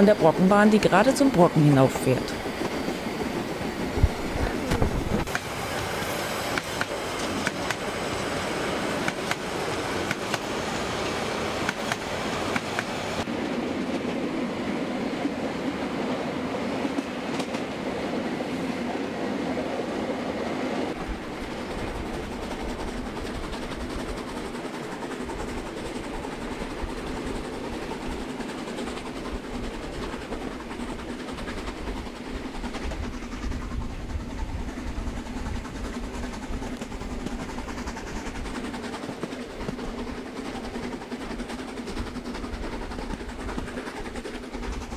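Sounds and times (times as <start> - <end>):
model trains running on track: 0.0 - 44.9
steam train running: 0.0 - 44.9.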